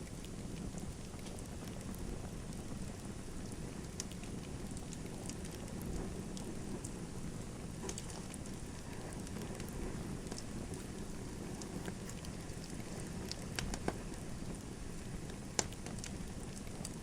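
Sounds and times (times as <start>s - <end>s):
fire crackles and pops: 0.0s - 17.0s
rush of fire flames: 0.0s - 17.0s.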